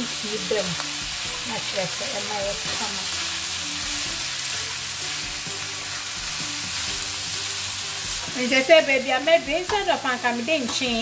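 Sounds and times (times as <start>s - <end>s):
meat and vegetables sizzling: 0.0s - 11.0s.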